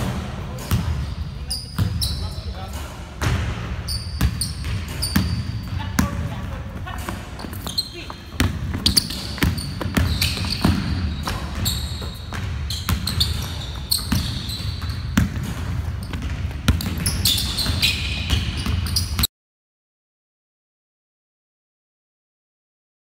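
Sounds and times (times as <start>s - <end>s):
basketballs bouncing on wood floor: 0.0s - 19.3s
sneaker squeaks: 0.0s - 19.3s.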